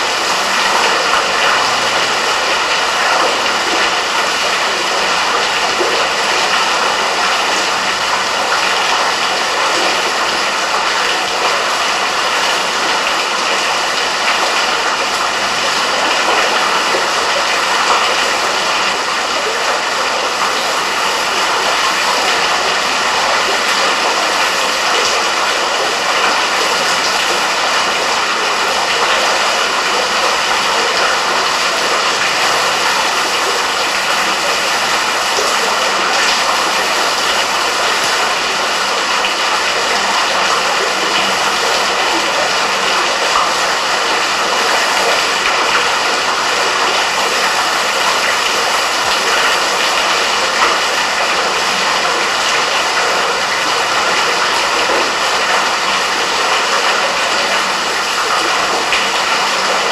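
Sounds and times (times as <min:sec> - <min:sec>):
waterfall rushing in a cave: 0:00.0 - 0:59.9.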